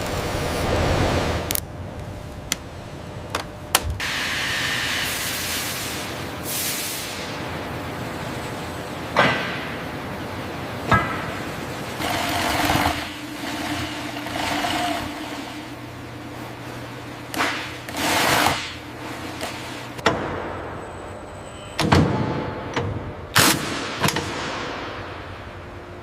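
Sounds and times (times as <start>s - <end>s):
machinery humming: 0.0s - 26.0s.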